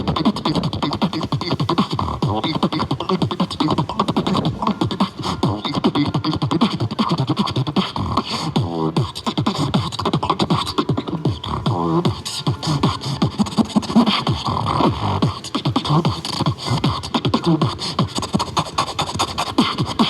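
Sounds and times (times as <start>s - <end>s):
beatboxing: 0.0s - 20.0s
buzzing pitched beatbox passages: 0.0s - 20.0s.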